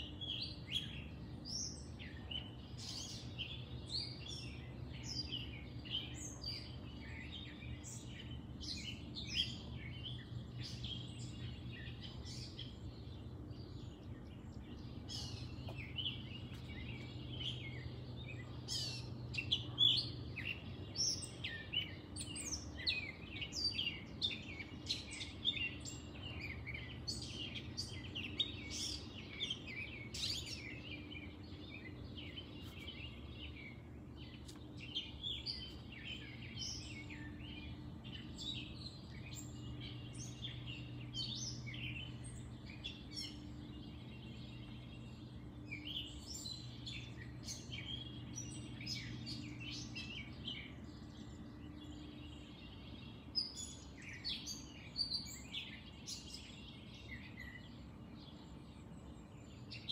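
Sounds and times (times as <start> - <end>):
low background hum: 0.0 - 59.9
wild birds chirping: 0.0 - 59.9.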